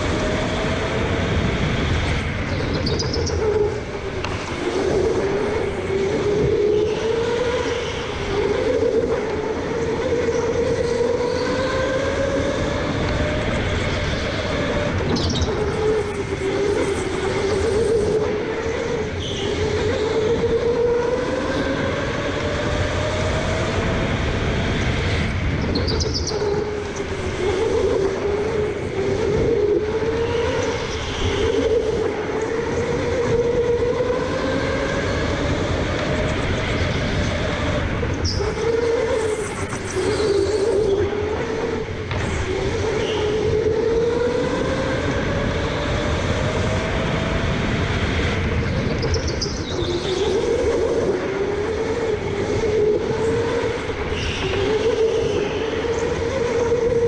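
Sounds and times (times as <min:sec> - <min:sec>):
electric go-kart motor whine: 0:00.0 - 0:57.0
rumble of tyres and chassis: 0:00.0 - 0:57.0.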